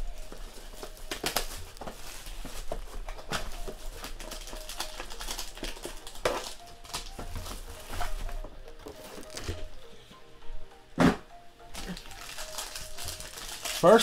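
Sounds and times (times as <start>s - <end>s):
plastic wrap crinkling: 0.0s - 9.8s, 11.7s - 14.0s.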